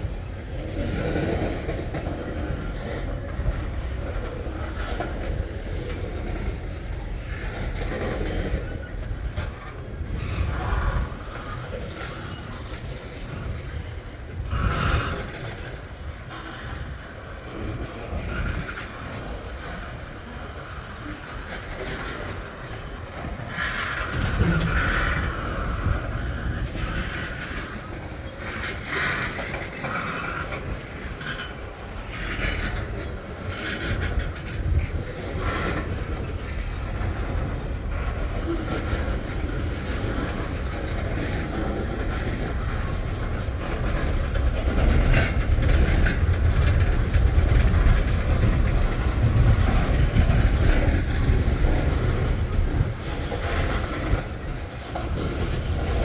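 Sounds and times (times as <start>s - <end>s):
freight train wheels rumbling: 0.0s - 56.0s
train clanks and squeals: 0.0s - 56.0s.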